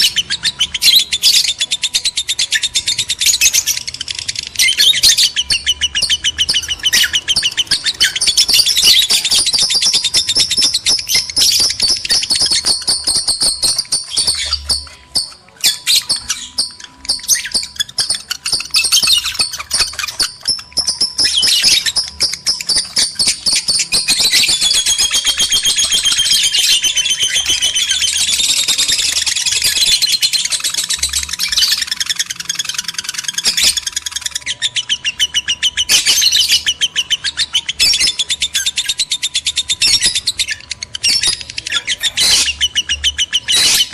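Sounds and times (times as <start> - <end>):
birds twittering: 0.0 - 43.9
birds warbling: 0.0 - 43.9.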